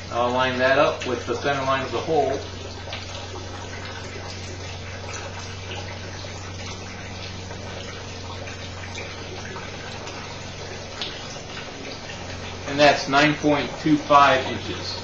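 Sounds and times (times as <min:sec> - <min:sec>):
low steady hum: 0:00.0 - 0:15.0
water jet splashing into tub: 0:00.0 - 0:15.0.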